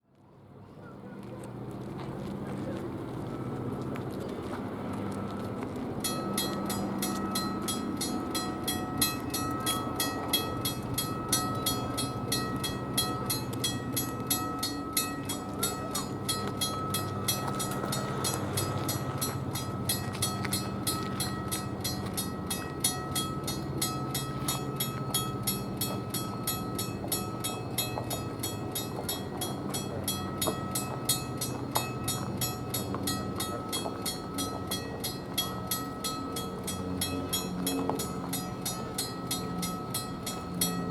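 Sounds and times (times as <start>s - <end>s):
train engine rumble: 0.1s - 40.9s
railroad crossing bell ringing: 5.8s - 40.9s.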